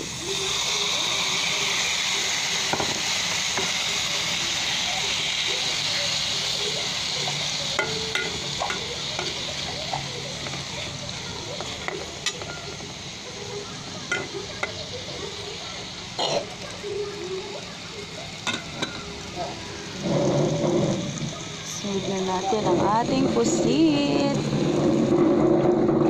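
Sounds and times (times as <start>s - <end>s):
tomatoes sizzling in oil: 0.0s - 26.0s.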